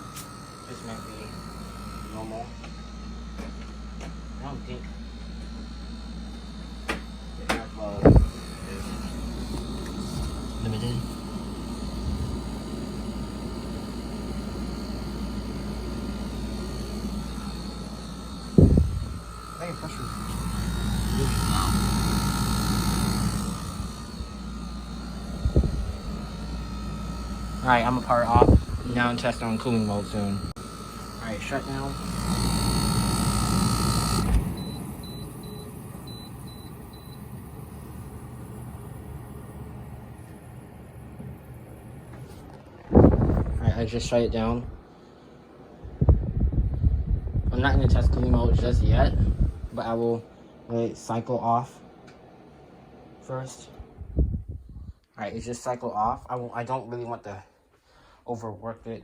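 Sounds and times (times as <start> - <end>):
faint steady whine: 0.0 - 59.0
heat pump compressor and fan hum: 0.0 - 59.0.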